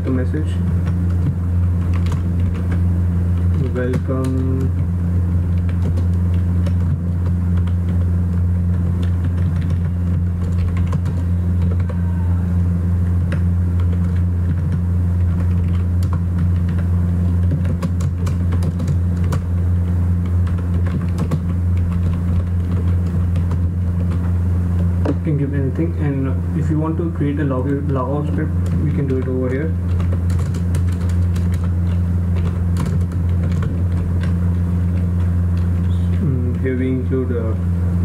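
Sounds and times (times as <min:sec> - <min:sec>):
loud steady low hum: 0:00.0 - 0:38.0
computer keyboard typing: 0:00.1 - 0:12.2, 0:13.0 - 0:25.4, 0:26.7 - 0:36.7.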